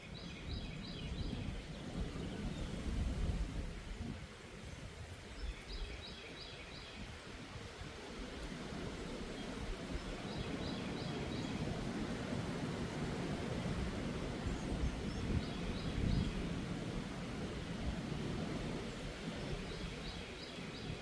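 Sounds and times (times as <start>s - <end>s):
wind gusting across microphone: 0.0s - 21.0s.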